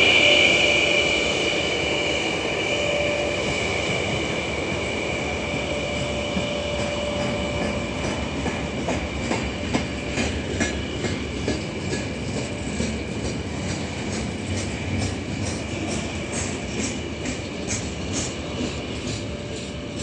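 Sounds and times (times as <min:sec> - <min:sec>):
train brake squeal: 0:00.0 - 0:20.0
train rumble: 0:00.0 - 0:20.0.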